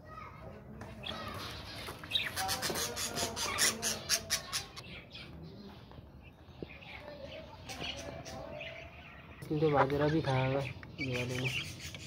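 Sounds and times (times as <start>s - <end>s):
chickens chirping and clucking: 0.4s - 12.0s.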